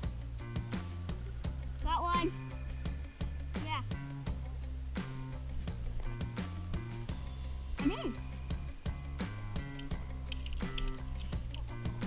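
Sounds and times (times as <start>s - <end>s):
background music with steady beat: 0.0s - 12.0s
sustained bass notes: 0.0s - 12.0s.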